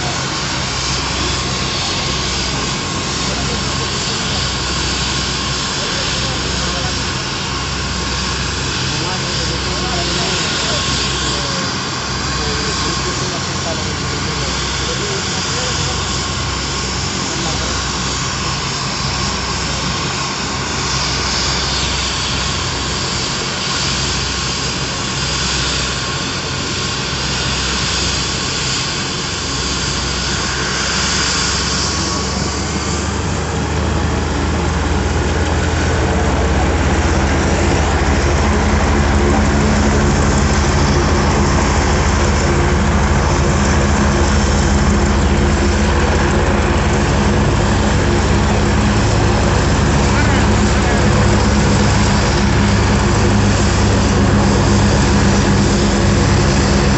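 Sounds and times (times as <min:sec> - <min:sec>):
heavy low drone: 0:00.0 - 0:56.9
helicopter engine and rotor whine: 0:00.0 - 0:56.9.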